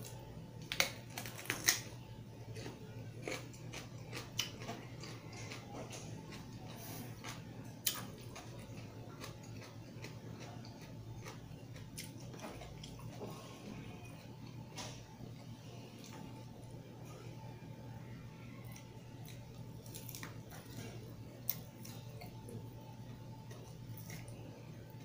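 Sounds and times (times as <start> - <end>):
person chewing with wet mouth sounds: 0.0 - 16.8, 18.6 - 25.0
low steady hum: 0.0 - 25.0.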